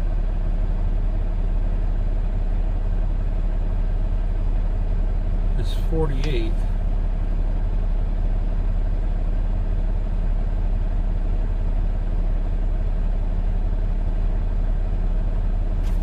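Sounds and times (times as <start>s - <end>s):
truck engine idling: 0.2s - 16.0s.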